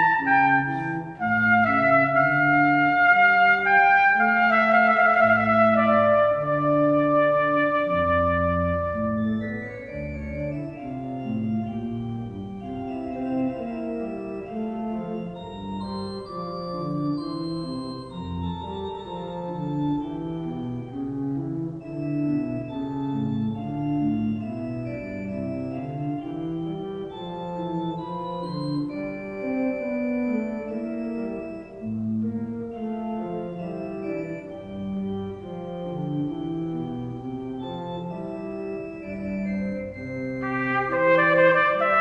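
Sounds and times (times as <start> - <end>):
organ music: 0.0 - 42.0.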